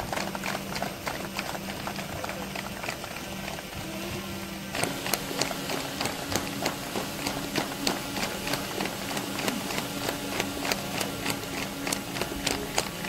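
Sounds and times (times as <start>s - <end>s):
people clapping: 0.0s - 3.9s, 4.7s - 13.0s
steady low hum: 0.0s - 13.0s.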